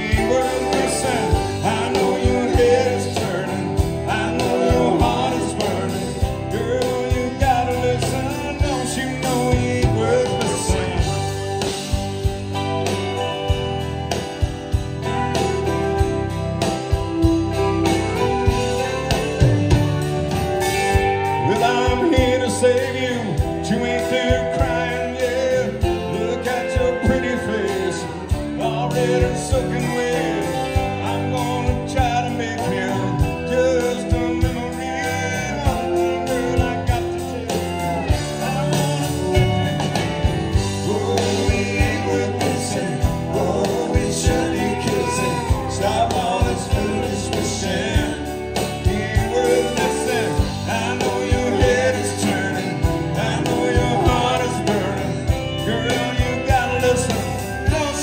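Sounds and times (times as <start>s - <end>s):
man singing slow song: 0.0s - 12.8s, 20.9s - 58.0s
drums: 0.0s - 58.0s
strummed acoustic guitars: 0.0s - 58.0s.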